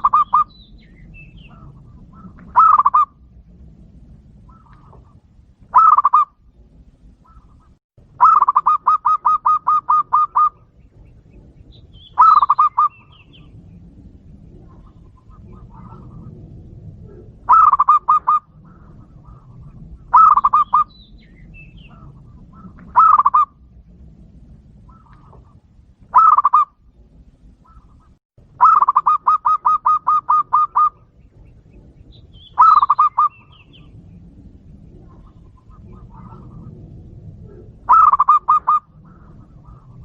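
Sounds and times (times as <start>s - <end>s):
dove cooing: 0.0s - 3.3s, 4.4s - 23.7s, 24.8s - 40.0s.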